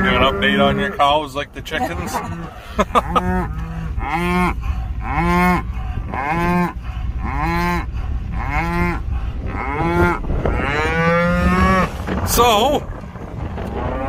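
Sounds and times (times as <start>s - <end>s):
cow mooing: 0.0s - 12.0s.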